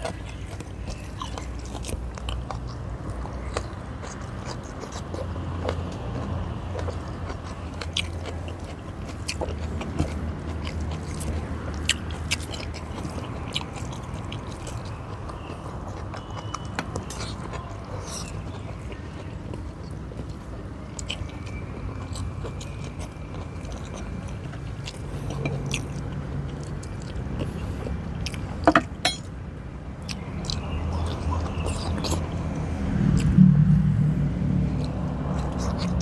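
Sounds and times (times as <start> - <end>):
man chewing food: 0.0 - 33.4, 34.2 - 36.0.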